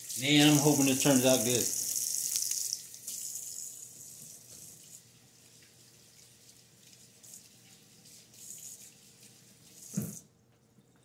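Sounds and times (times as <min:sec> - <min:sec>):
faucet running: 0:00.0 - 0:10.2.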